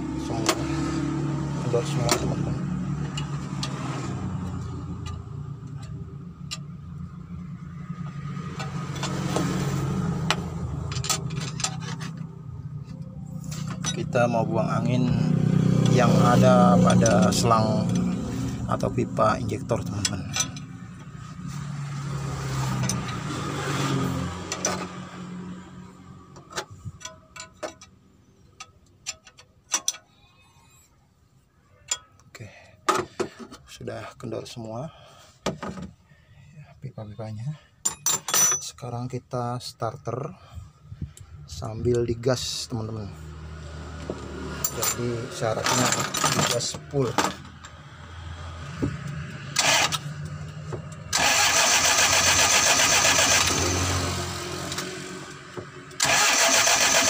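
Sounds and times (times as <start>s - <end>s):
engine droning: 0.0s - 30.9s, 40.1s - 57.0s.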